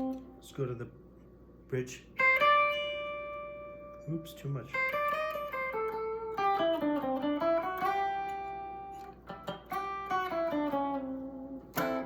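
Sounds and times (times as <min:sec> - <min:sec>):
electric guitar lead melody: 0:00.0 - 0:00.4, 0:02.2 - 0:12.0.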